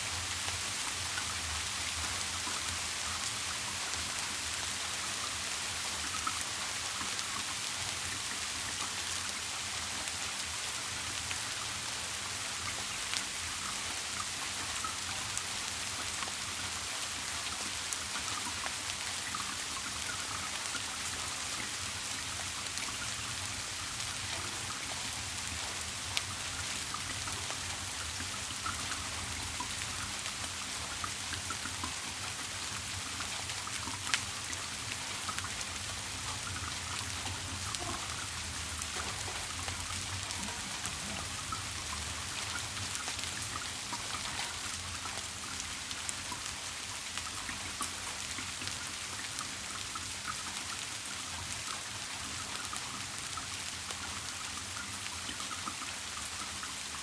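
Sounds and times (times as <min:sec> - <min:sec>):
raindrops ticking: 0:00.0 - 0:57.0
steady rain: 0:00.0 - 0:57.0.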